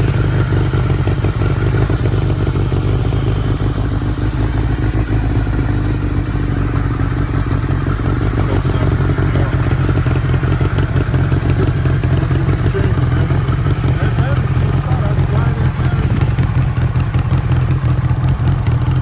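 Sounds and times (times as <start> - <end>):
motorcycle engine fast idle: 0.0 - 19.0.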